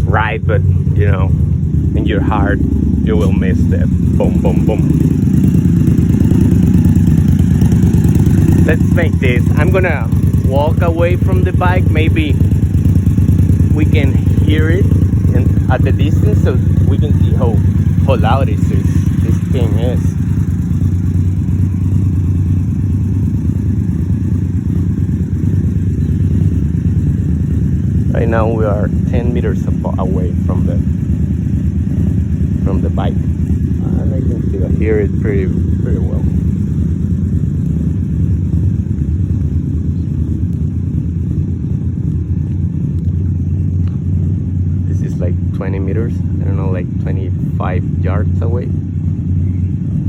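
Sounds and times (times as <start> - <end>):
motorcycle engine idling: 0.0 - 50.0.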